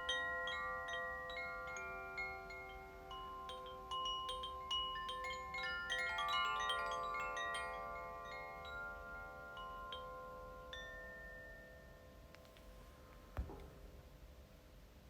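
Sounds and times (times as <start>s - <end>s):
chimes ringing: 0.0s - 12.4s.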